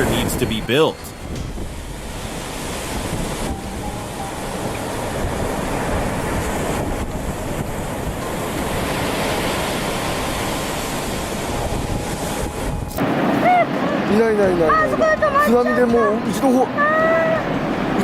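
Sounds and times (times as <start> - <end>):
floodwater rushing: 0.0 - 18.0
wind buffeting microphone: 0.0 - 18.0.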